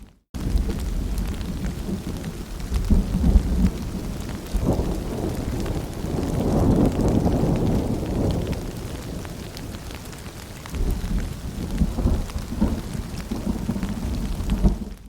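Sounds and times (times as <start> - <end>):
steady rain: 0.0 - 15.0
low rolling thunder: 0.4 - 15.0.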